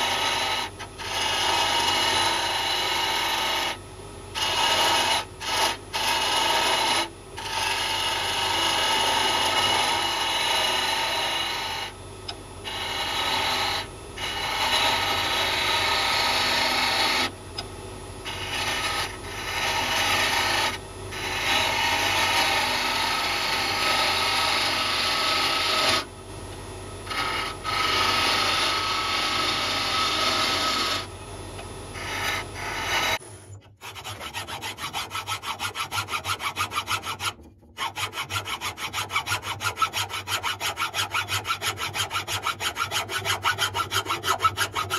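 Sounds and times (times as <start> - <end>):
lathe motor hum: 4.4 - 11.9, 12.7 - 17.4, 18.2 - 44.9
turning tool scraping wood: 4.4 - 11.9, 12.7 - 17.3, 18.2 - 26.1, 27.0 - 31.1, 31.9 - 44.9.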